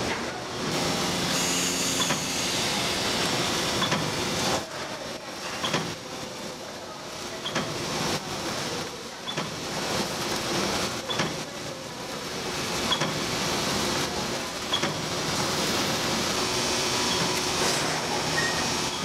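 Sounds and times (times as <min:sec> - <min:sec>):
packaging machine running: 0:00.0 - 0:19.0.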